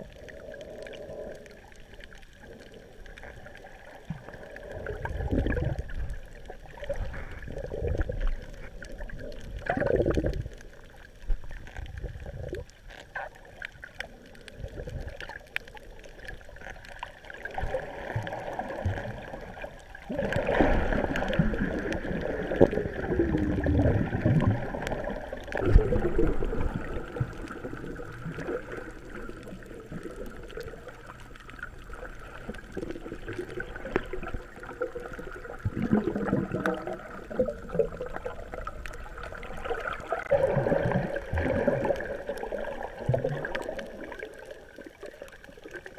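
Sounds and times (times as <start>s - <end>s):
underwater gurgling and sloshing: 0.0s - 45.9s.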